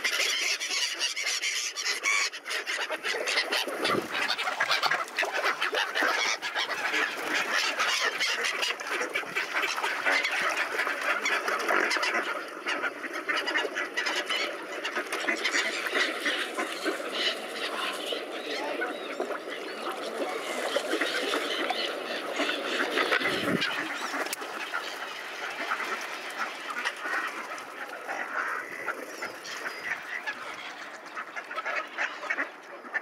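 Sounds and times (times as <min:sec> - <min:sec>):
gulls swans and ducks calling: 0:00.0 - 0:33.0
gulls' wings flapping: 0:02.6 - 0:32.5.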